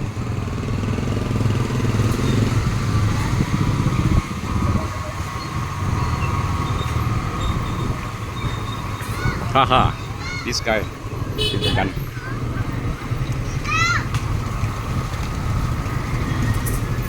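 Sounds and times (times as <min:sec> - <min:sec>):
small motorcycle engine running: 0:00.0 - 0:10.0, 0:11.1 - 0:17.0.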